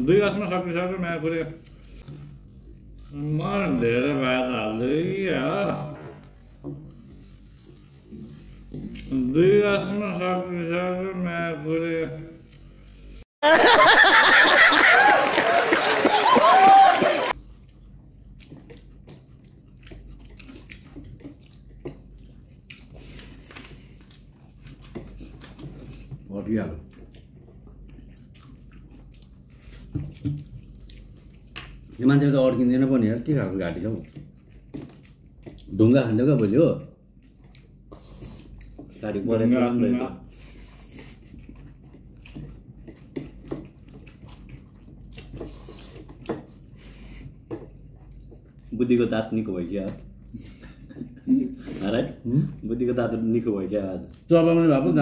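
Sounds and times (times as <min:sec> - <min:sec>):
people chewing noodles: 0:00.0 - 0:13.3, 0:14.3 - 0:55.0.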